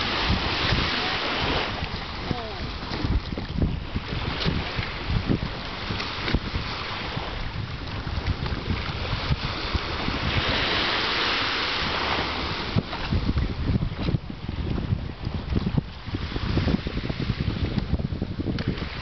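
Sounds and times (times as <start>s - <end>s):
shallow water splashing: 0.0s - 16.7s
wind buffeting microphone: 0.0s - 19.0s.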